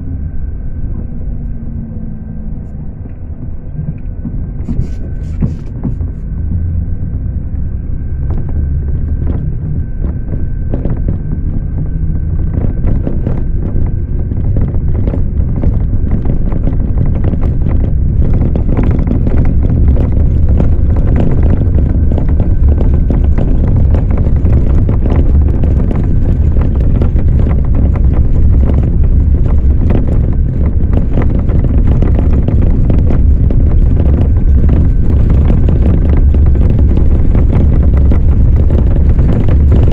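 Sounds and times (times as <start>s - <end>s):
motor rumbling: 0.0s - 39.9s.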